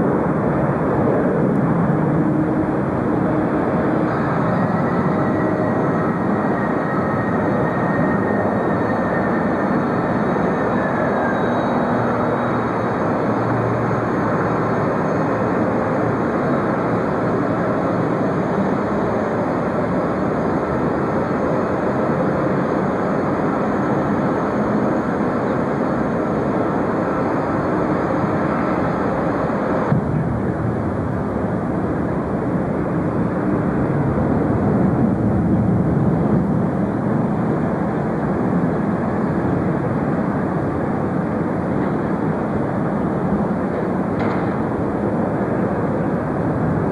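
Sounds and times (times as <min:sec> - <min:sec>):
faint engine whine: 0:00.0 - 0:46.9
jet engines rushing: 0:00.0 - 0:46.9.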